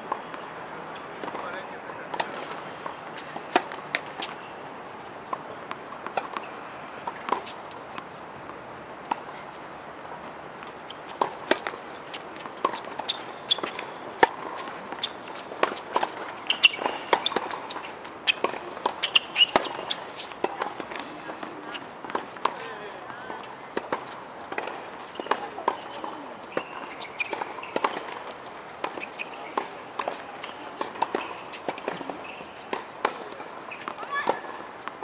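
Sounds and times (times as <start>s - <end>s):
tennis balls bouncing on hard court: 0.9s - 1.5s, 2.1s - 4.5s, 5.2s - 9.3s, 10.0s - 35.0s
tennis balls hit with rackets: 1.2s - 1.5s, 2.1s - 4.4s, 5.3s - 9.3s, 10.1s - 35.0s.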